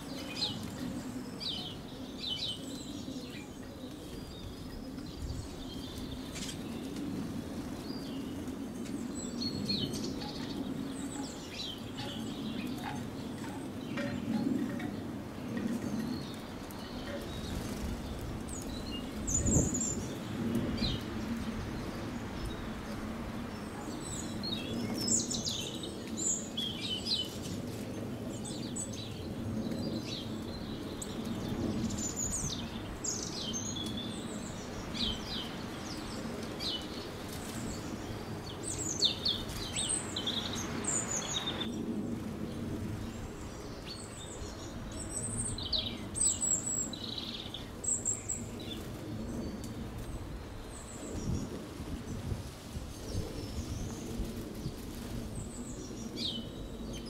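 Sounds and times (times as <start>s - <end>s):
small birds chirping: 0.0s - 52.3s.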